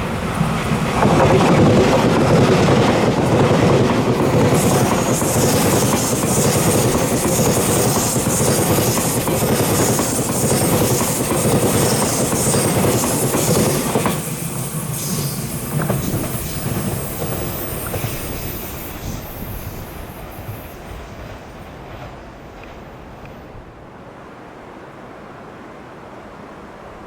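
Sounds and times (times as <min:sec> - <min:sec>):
electric train running past: 0:00.0 - 0:24.9.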